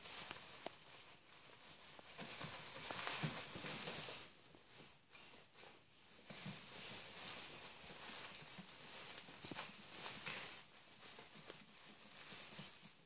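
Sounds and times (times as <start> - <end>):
crinkly rustle of training pad: 0.0 - 13.0
puppy claws pattering on floor: 0.0 - 13.0.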